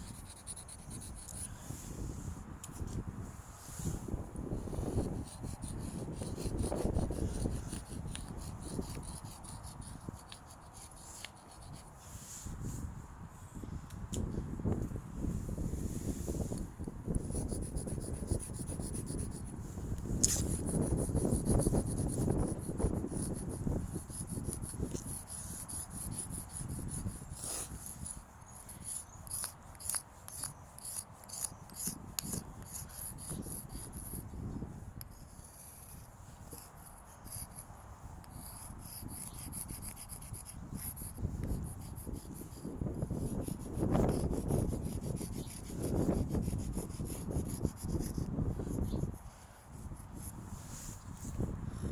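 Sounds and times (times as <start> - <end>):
chalk scraping on surface: 0.0 - 3.0, 3.6 - 12.8, 15.8 - 51.4
wind rumbling on microphone: 0.0 - 51.9.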